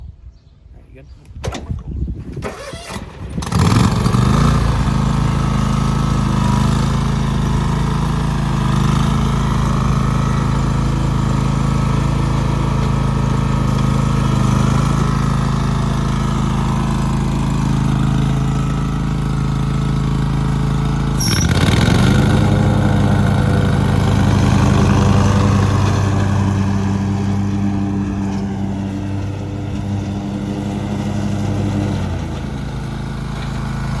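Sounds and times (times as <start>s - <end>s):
lawn tractor engine running: 1.3s - 34.0s.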